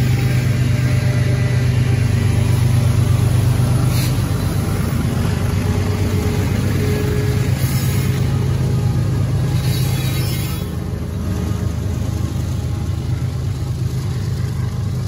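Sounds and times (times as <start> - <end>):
diesel locomotive drone: 0.0 - 15.0
train cars rumbling on rails: 0.0 - 15.0.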